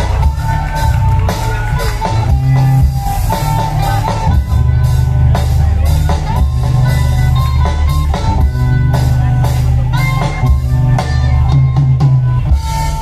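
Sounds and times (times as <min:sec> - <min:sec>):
deep heavy bass: 0:00.0 - 0:13.0
drum kit strokes: 0:00.0 - 0:13.0
held melody line: 0:00.0 - 0:13.0.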